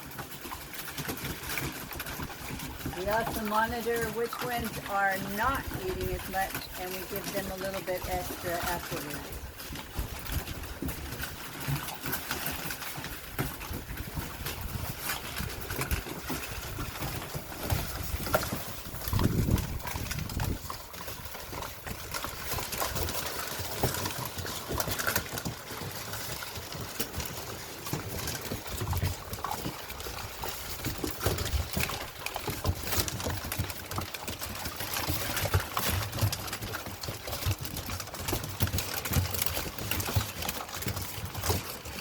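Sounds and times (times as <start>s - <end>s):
puppies crunching kibble: 0.0s - 42.0s.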